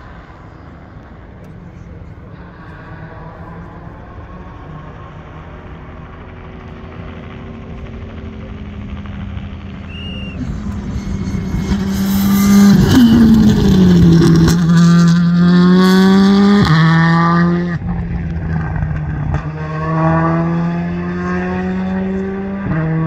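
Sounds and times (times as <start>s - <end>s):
rally car engine passing: 0.0s - 23.0s.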